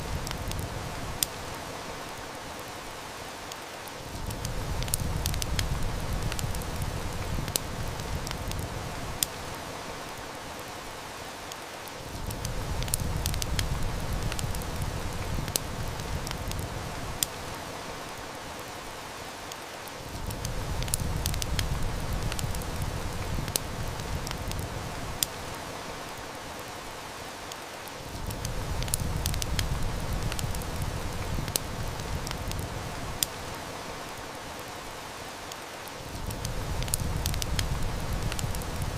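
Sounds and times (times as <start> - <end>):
heavy rain hiss: 0.0 - 38.9
wood fire crackling: 0.0 - 38.9.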